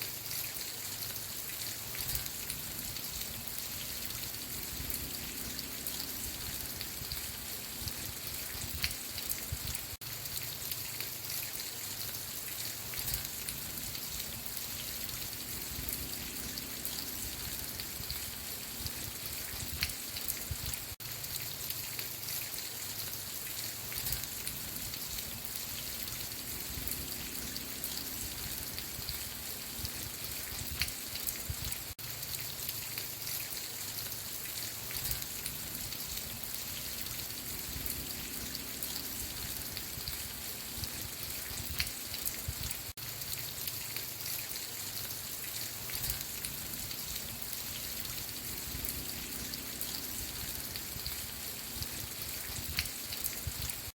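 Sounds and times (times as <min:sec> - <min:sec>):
raindrops pattering on a surface: 0:00.0 - 0:53.9
steady rain falling: 0:00.0 - 0:53.9.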